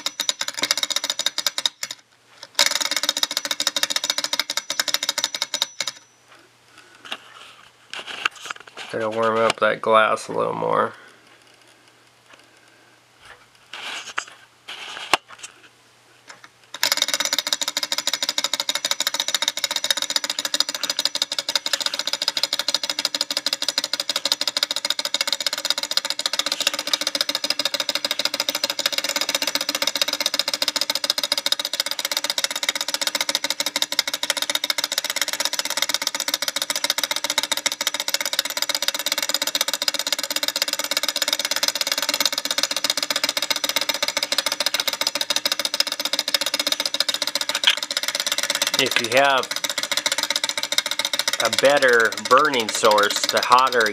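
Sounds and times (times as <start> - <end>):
model engine rattling: 0.0 - 6.1, 16.7 - 53.9.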